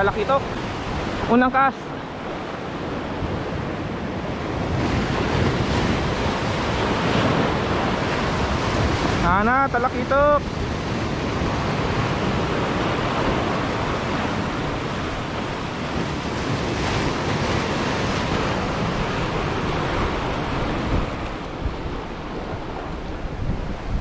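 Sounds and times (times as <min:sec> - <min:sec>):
surf breaking over rocks: 0:00.0 - 0:24.0.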